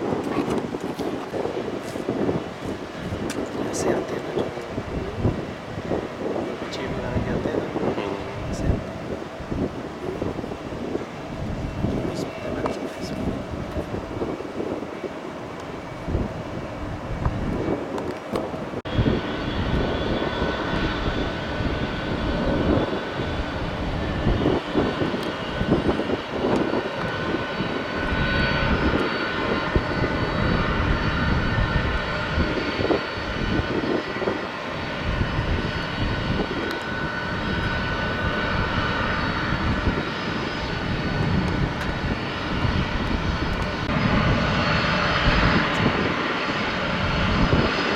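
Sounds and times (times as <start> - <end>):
airliner engines rumbling: 0.0 - 47.9
high engine whine: 0.0 - 47.9.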